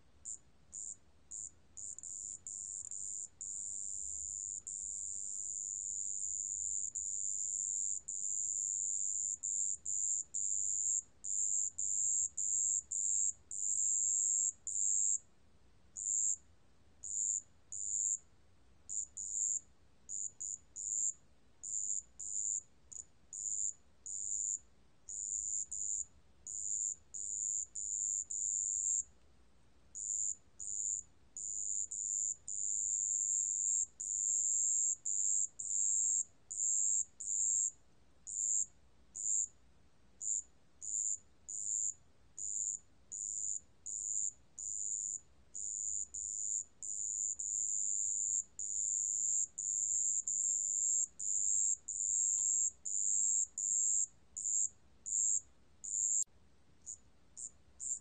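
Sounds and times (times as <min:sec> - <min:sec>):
cricket trilling: 0:00.3 - 0:15.2, 0:16.0 - 0:16.4, 0:17.0 - 0:18.2, 0:18.9 - 0:29.0, 0:33.8 - 0:37.7, 0:38.3 - 0:39.5, 0:40.2 - 0:56.3, 0:56.9 - 0:58.0.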